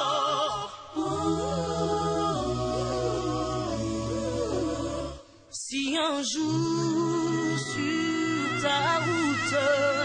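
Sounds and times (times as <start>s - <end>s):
song with sung vocals: 0.0s - 10.0s.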